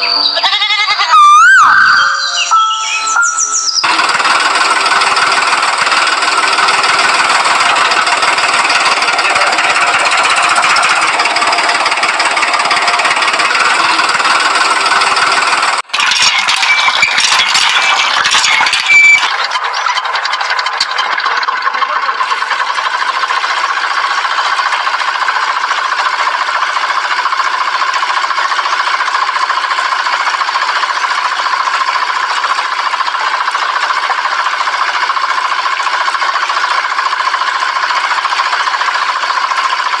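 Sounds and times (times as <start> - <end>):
small water pump motor buzzing: 3.8 - 40.0.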